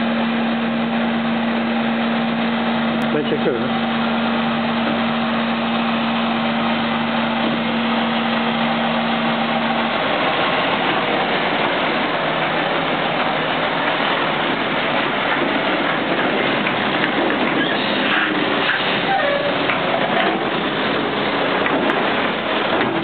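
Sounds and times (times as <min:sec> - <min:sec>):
steady hum: 0:00.0 - 0:23.0
truck diesel engine running: 0:00.0 - 0:23.0.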